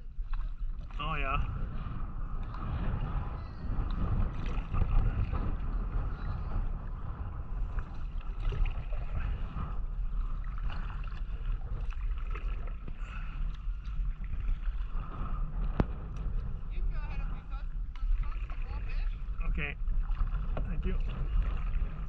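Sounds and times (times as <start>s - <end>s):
steady low rumble: 0.0s - 22.0s
water splashing and gurgling: 0.0s - 22.0s.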